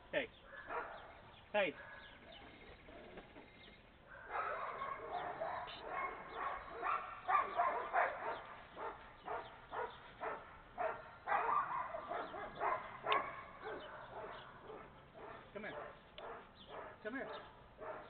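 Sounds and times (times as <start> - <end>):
dog barking: 0.5 - 2.2, 4.1 - 18.0.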